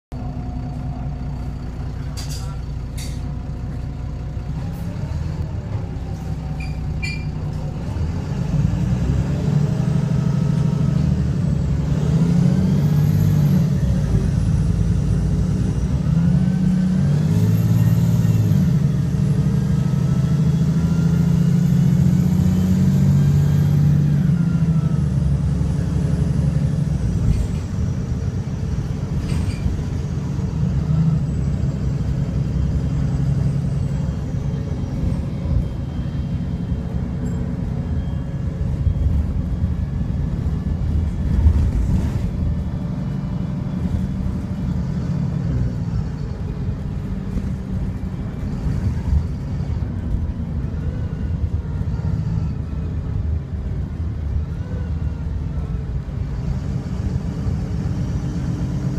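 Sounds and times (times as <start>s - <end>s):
bus engine accelerating: 0.1s - 58.9s.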